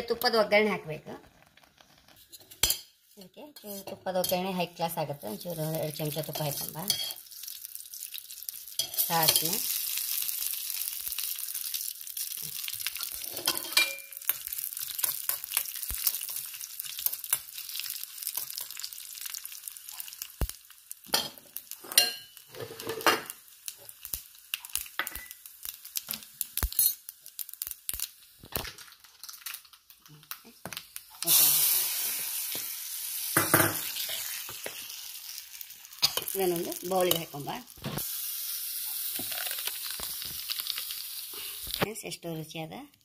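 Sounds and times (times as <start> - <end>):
seeds sizzling and popping in oil: 0.0 - 43.0.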